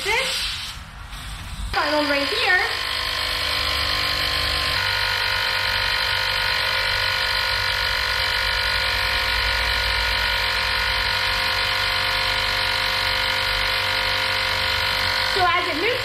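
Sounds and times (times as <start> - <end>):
tire inflator compressor buzzing: 1.7 - 16.0.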